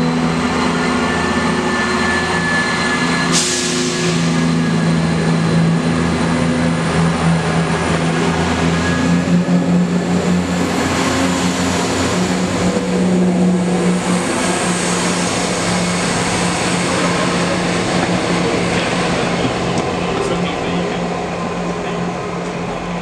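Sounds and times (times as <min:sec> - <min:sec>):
diesel train engine: 0:00.0 - 0:23.0.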